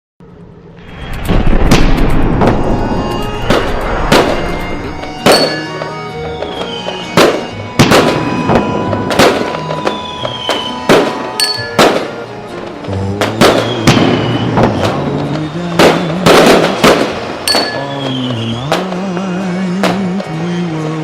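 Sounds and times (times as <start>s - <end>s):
music: 0.2s - 21.0s
fireworks bangs: 0.8s - 21.0s
firework whistle falling in pitch: 0.9s - 12.2s, 13.3s - 20.8s.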